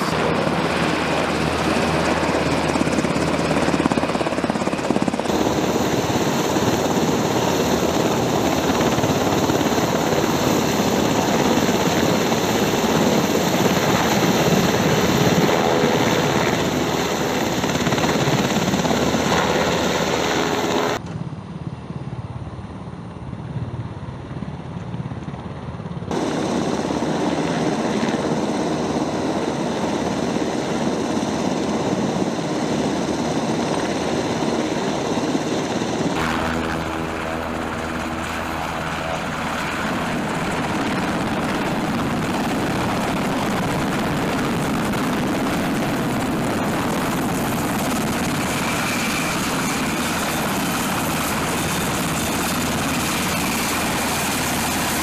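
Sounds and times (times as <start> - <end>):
helicopter rotor thrum: 0.0 - 21.3, 25.1 - 55.0
turbine engine whine: 0.0 - 55.0.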